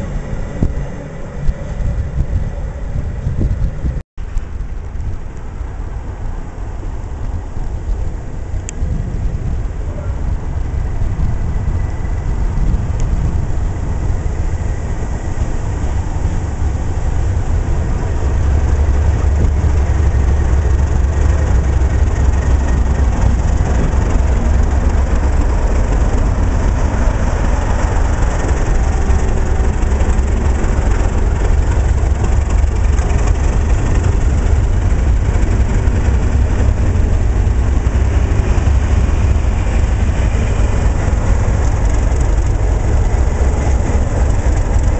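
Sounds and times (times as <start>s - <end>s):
diesel locomotive engine rumbling: 0.0s - 44.9s
passing train noise: 0.0s - 44.9s.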